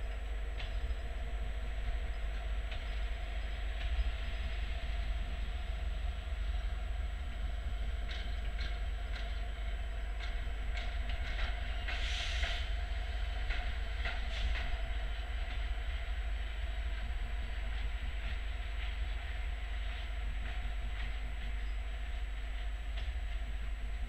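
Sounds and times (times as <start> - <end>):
train coaches rumbling: 0.0 - 24.0.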